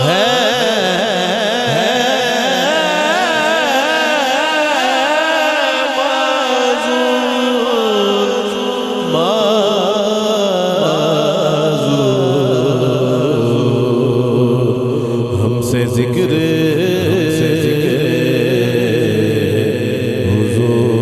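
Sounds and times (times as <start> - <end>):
man singing ornamented melody: 0.0 - 21.0
sustained vocal drone: 0.0 - 21.0.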